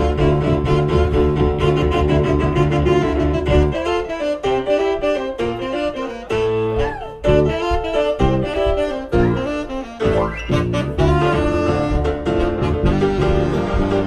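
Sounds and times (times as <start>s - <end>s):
bass line: 0.0s - 3.9s, 6.3s - 14.0s
saxophone melody: 0.0s - 14.0s.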